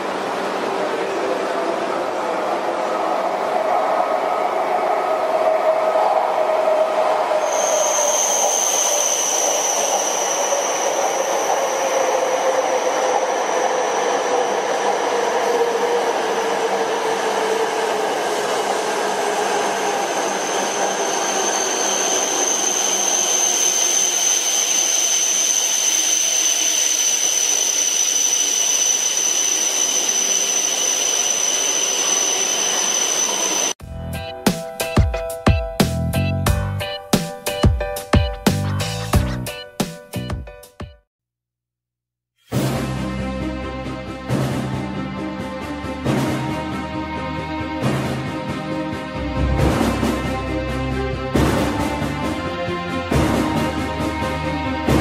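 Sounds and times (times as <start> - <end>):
train passing at high speed: 0.0 - 35.0, 42.6 - 55.0.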